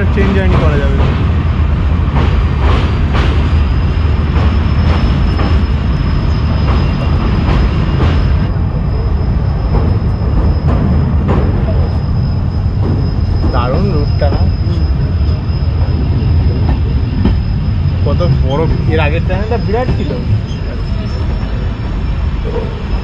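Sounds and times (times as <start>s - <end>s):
train rumbling over bridge: 0.0s - 23.0s.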